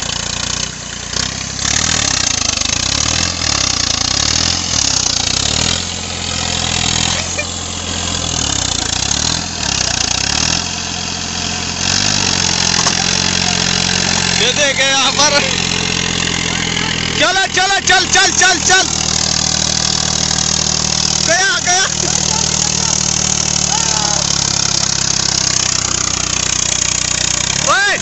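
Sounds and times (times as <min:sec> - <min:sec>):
tractor engine labouring: 0:00.0 - 0:28.0.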